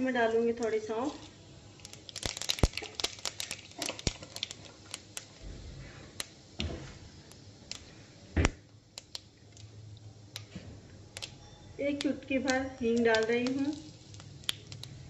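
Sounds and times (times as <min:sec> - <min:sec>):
seeds crackling in hot oil: 0:00.0 - 0:15.0.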